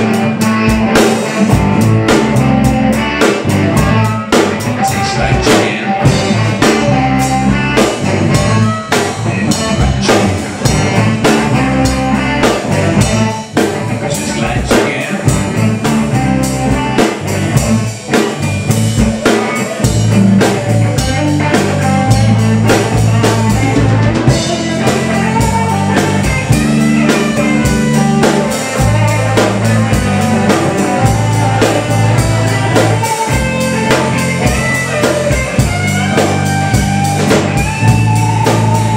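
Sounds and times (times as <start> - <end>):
drum kit steady beat: 0.0 - 38.9
electric guitar: 0.0 - 38.9.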